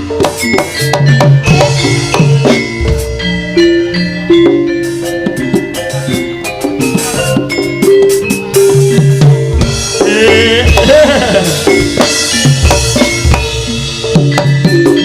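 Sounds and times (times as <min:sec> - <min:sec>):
heavy drum beats: 0:00.0 - 0:03.6, 0:04.3 - 0:15.0
metallophone melody: 0:00.0 - 0:15.0.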